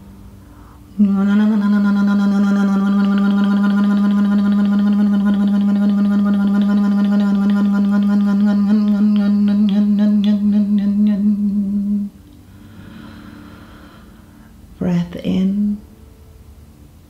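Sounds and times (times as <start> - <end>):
low droning tone: 0.0 - 15.9.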